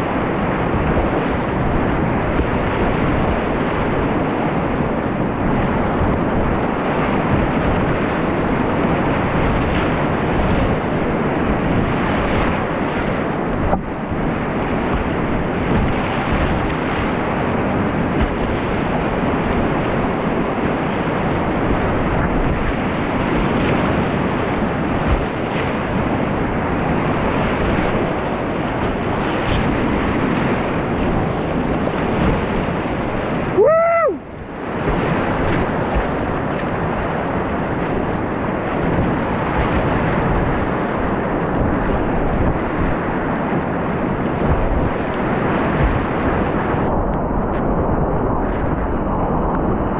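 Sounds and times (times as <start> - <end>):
whitewater rushing: 8.6 - 49.9.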